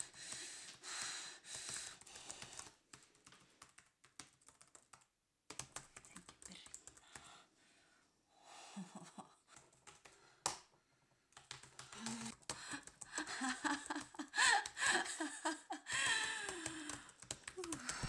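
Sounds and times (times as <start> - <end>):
typing on keyboard: 0.0 - 7.3, 9.5 - 10.6, 11.3 - 18.0.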